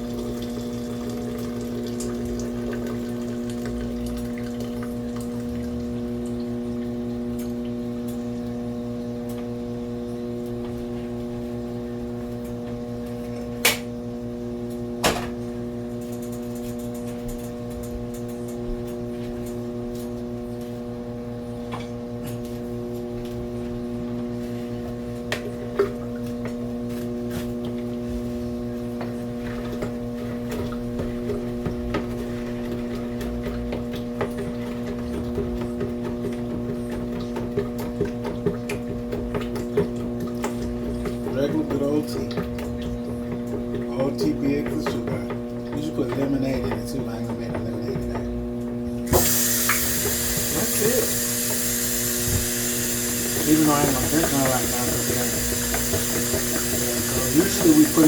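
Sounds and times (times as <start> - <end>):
kitchen appliance hum: 0.0 - 58.0.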